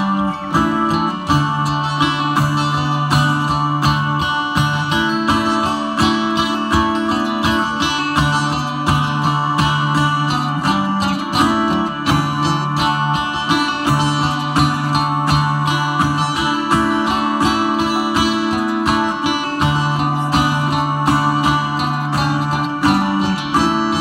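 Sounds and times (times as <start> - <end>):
acoustic string band folk music: 0.0 - 24.0.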